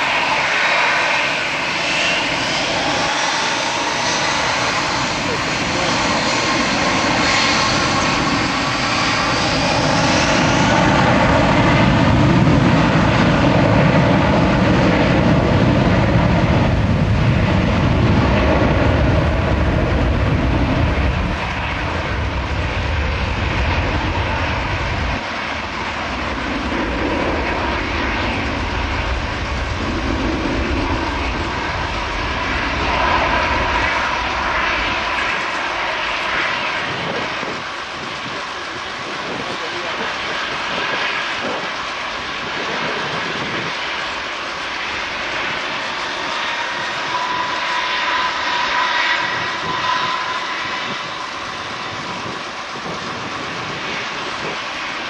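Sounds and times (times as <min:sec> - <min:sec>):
jet engine rushing: 0:00.0 - 0:55.0.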